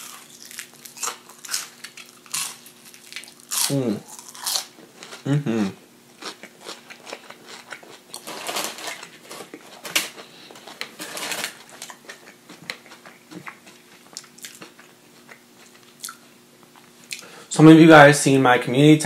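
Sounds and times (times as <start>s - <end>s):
chewing crunchy food: 0.0s - 5.3s, 6.1s - 17.3s.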